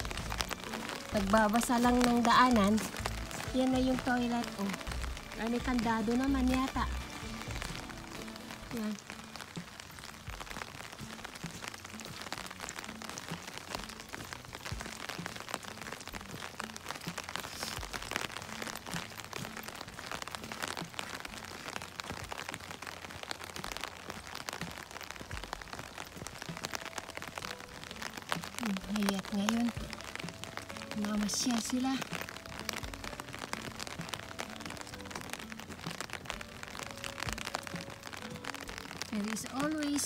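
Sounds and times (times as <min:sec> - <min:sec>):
light drizzle falling: 0:00.0 - 0:40.0.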